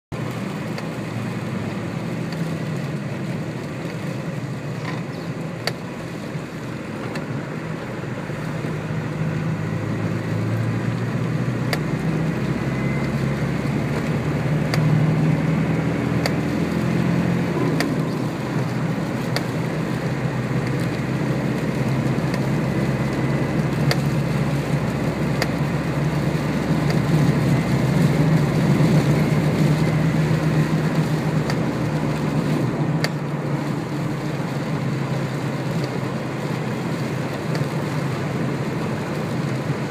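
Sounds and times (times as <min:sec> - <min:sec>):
diesel engine running: 0:00.1 - 0:39.9
road noise: 0:00.1 - 0:39.9.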